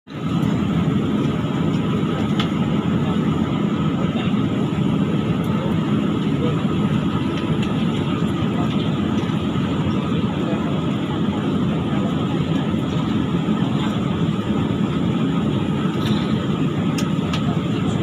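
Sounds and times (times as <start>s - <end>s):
airliner engines rumbling: 0.1s - 18.0s.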